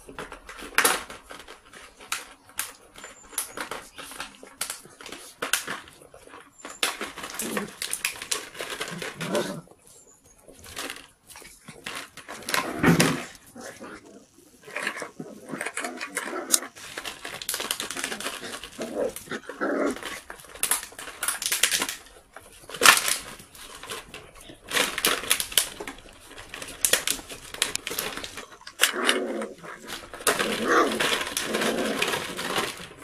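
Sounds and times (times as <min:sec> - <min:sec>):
plastic bottle crackling on paving: 0:00.0 - 0:33.0.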